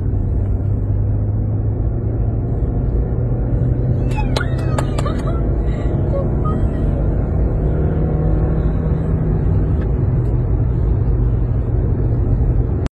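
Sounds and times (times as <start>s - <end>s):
car engine and tyre noise: 0.0s - 12.9s.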